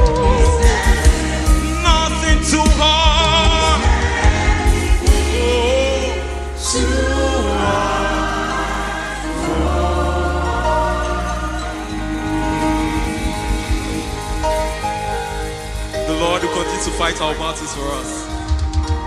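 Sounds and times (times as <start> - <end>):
bass and drum beats: 0.0 - 8.0, 10.0 - 19.0
choir and band sustained chords: 0.0 - 19.0.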